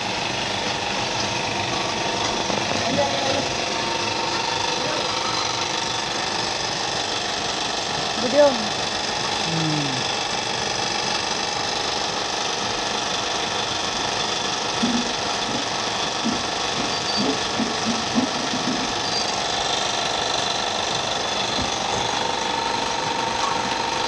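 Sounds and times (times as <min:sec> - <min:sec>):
roasting machine running: 0:00.0 - 0:24.0.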